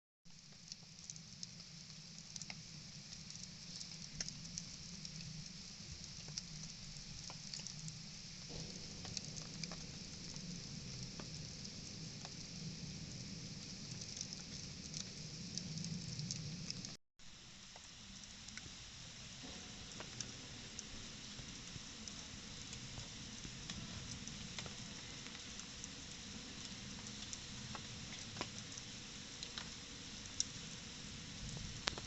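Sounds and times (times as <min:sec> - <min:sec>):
campfire crackling: 0:00.3 - 0:32.0.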